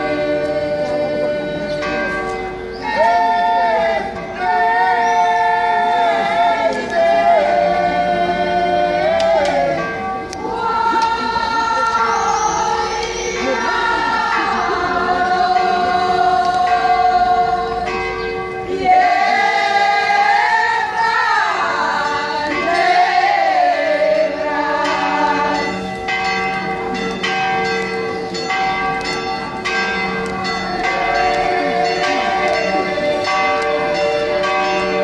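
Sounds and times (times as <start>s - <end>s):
choir singing: 0.0s - 26.2s, 30.7s - 35.0s
church bells ringing: 0.0s - 35.0s.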